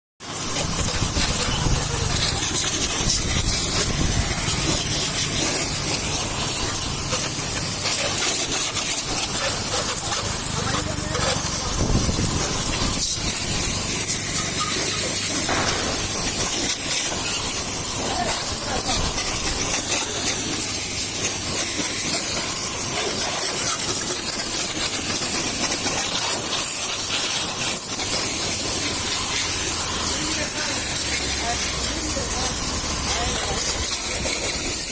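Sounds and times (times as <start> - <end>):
pressure washer jet spraying: 0.2 - 34.9.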